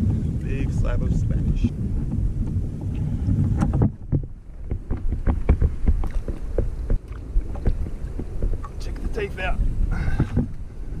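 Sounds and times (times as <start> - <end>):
water lapping against kayak hull: 0.0 - 11.0
wind buffeting microphone: 0.0 - 11.0.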